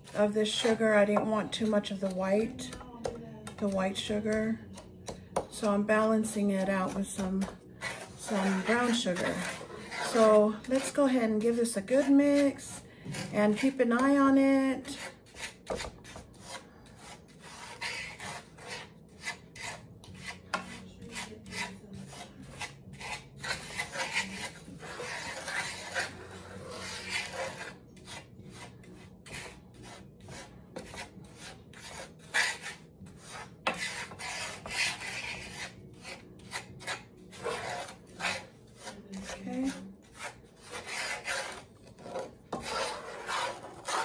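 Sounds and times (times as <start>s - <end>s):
wooden spoon scraping sugar in skillet: 0.0s - 2.8s, 3.5s - 44.0s.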